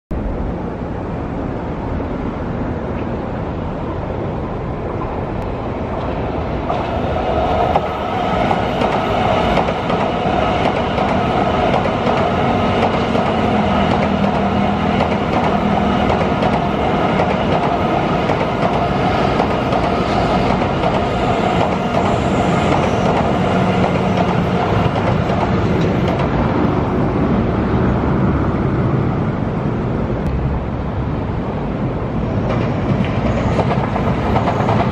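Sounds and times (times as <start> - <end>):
train passing on tracks: 0.1 - 34.9.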